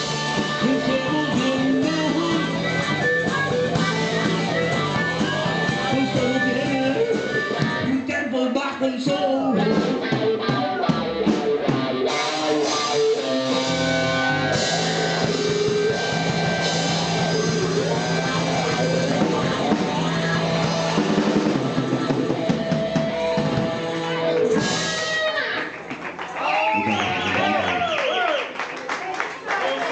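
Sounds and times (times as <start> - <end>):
blues-rock band playing: 0.0 - 27.8.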